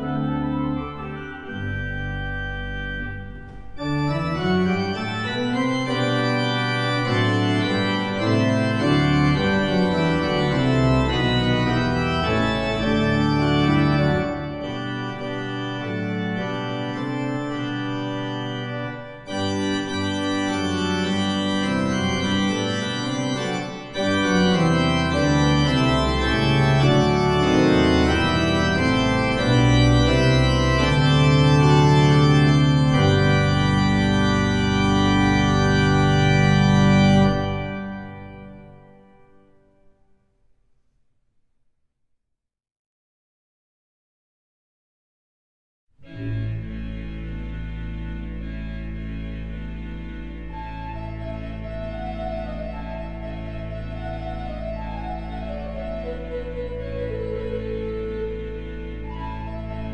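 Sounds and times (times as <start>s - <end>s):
church organ playing a carol: 0.0s - 39.9s, 46.0s - 59.9s.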